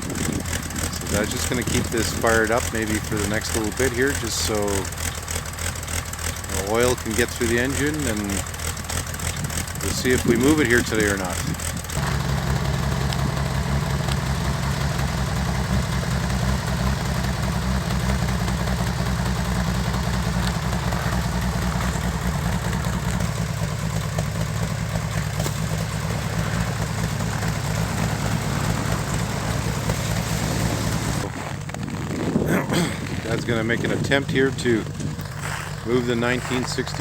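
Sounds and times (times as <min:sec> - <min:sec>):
snow vehicle engine idling: 0:00.0 - 0:37.0.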